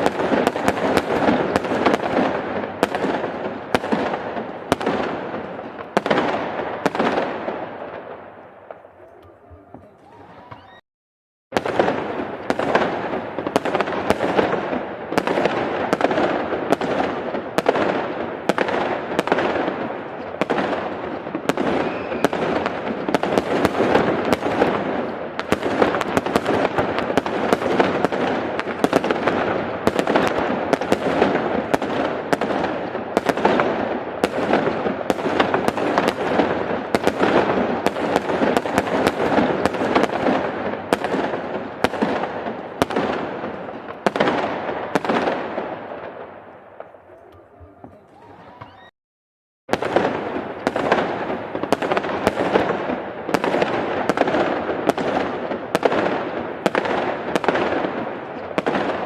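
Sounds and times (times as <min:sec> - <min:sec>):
fireworks crackling: 0:00.0 - 0:10.8, 0:11.6 - 0:48.9, 0:49.7 - 0:59.0.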